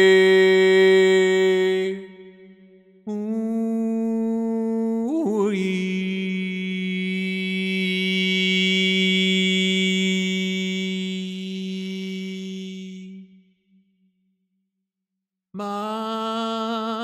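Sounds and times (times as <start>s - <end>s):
man humming a long tone: 0.0s - 13.5s, 15.6s - 17.0s.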